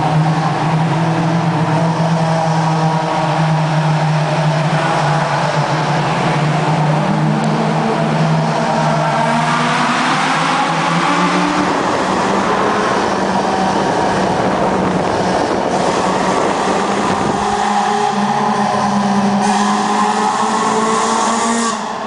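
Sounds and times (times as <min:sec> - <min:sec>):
car engines echoing in tunnel: 0:00.0 - 0:22.0.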